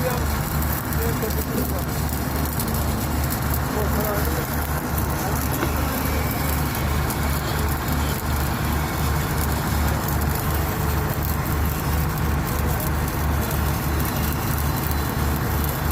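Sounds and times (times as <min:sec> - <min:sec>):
arc welding crackling sizzle: 0:00.0 - 0:15.9.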